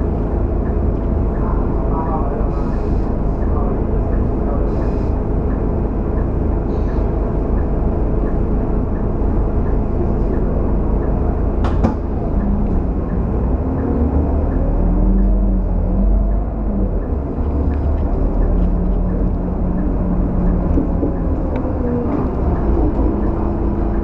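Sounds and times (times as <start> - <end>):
bus diesel engine idling: 0.0 - 24.0.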